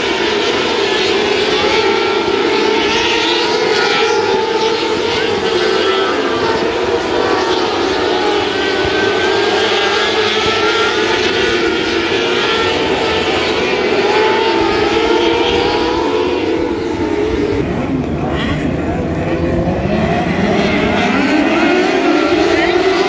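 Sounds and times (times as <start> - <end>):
racing car engines droning: 0.0 - 23.0.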